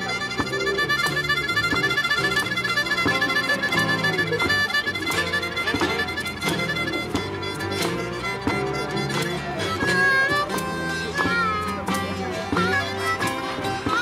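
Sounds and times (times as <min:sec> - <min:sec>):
blues instrumental music: 0:00.0 - 0:14.0.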